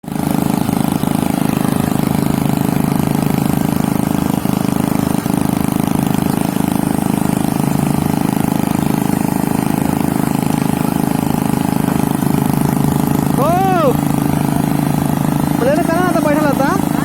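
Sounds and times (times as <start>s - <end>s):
engine chugging: 0.0s - 17.0s.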